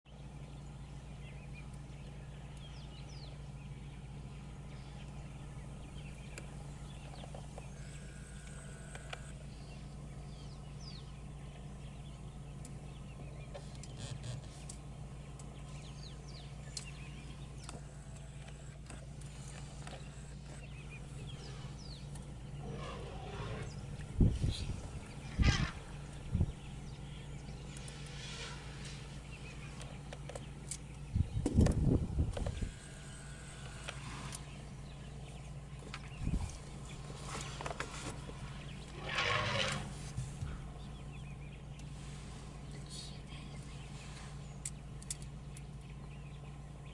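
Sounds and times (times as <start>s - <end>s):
steady low hum: 0.1s - 46.9s.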